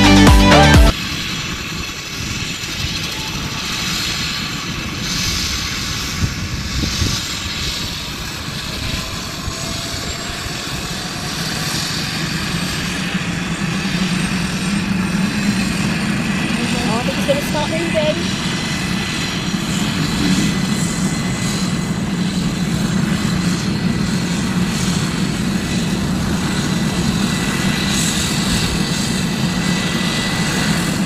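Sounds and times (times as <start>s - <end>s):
helicopter engine and rotor: 0.9s - 31.0s.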